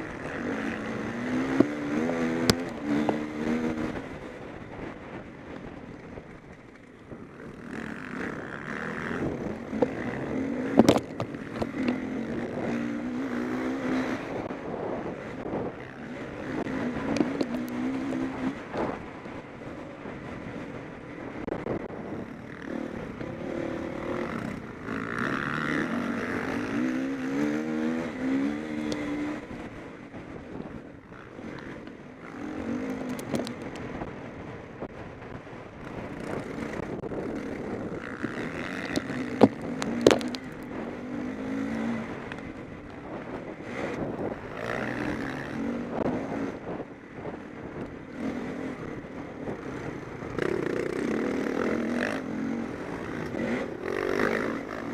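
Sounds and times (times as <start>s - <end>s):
motocross bikes revving past: 0.0s - 5.2s, 5.8s - 34.2s, 35.8s - 54.9s.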